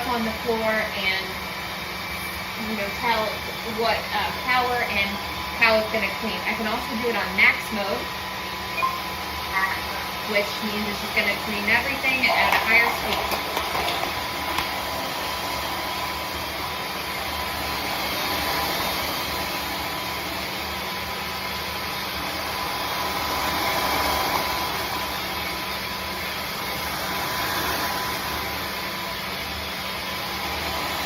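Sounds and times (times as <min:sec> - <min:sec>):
vacuum mop motor whirring: 0:00.0 - 0:31.0.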